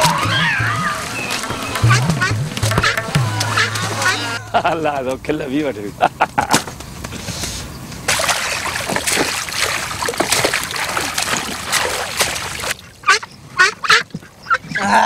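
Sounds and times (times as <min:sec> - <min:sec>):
water splashing and sloshing: 0:00.0 - 0:05.3, 0:07.9 - 0:15.0.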